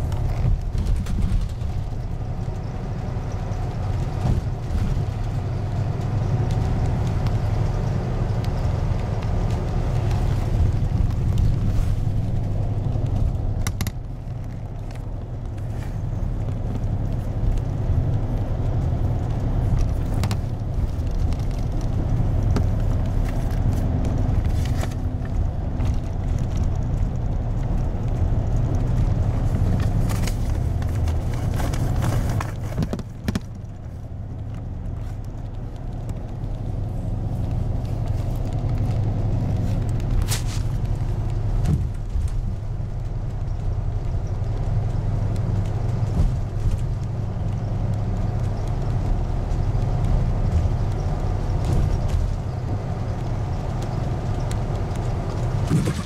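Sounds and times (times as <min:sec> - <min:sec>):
bus engine drone: 0:00.0 - 0:56.0
road rumble: 0:00.0 - 0:56.0.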